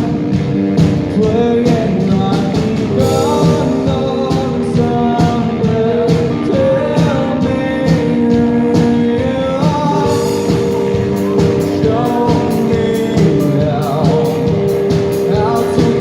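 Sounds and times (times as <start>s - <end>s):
lead vocal singing: 0.0s - 16.0s
rock band playing live: 0.0s - 16.0s.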